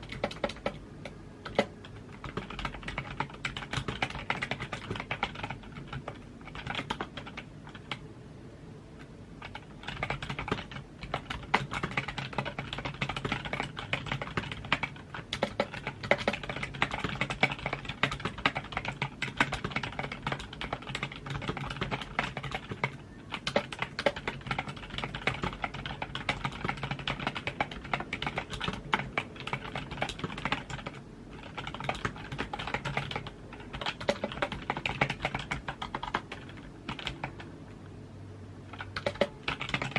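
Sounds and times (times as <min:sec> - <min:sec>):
keyboard typing clicks: 0:00.0 - 0:08.0, 0:09.0 - 0:37.8, 0:38.7 - 0:39.9.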